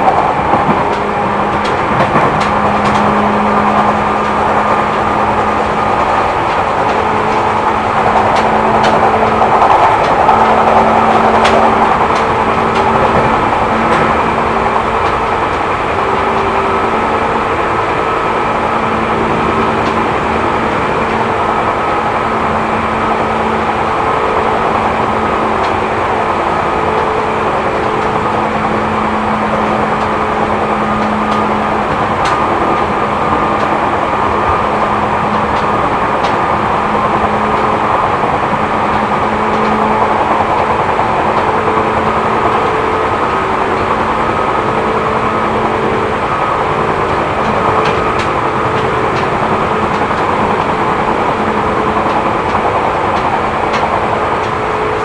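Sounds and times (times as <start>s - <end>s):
train motor and gear hum: 0.0s - 55.0s
train wheels rumbling on rail: 0.0s - 55.0s.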